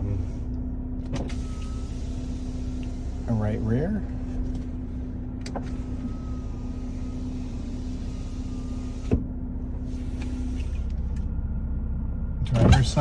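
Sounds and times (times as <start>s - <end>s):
power window motor whining: 0.0s - 3.6s, 4.2s - 11.3s, 12.5s - 13.0s
steady low hum: 0.0s - 13.0s.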